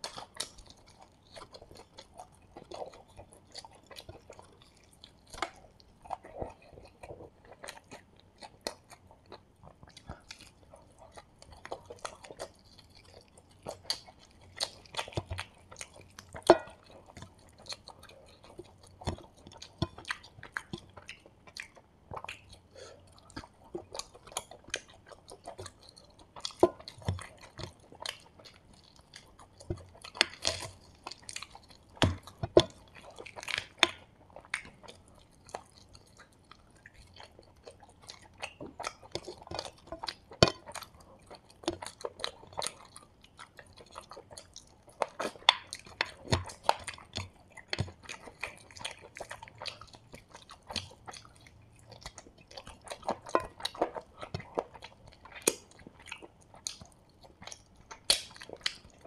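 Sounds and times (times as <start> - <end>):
chewing and crunching fried chicken: 0.0 - 59.0.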